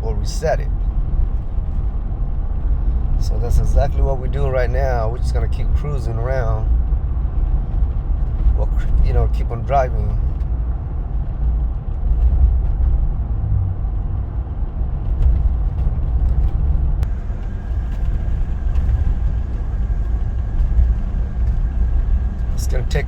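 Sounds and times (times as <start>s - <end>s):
diesel engine low rumble: 0.0s - 23.0s
road noise inside car: 0.0s - 23.0s.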